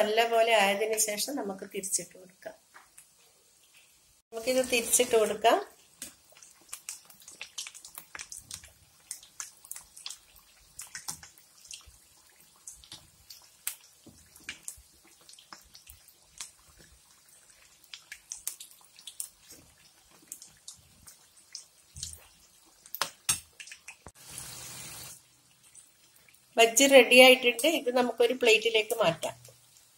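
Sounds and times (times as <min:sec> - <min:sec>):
fritters deep-frying in oil: 0:00.0 - 0:29.9.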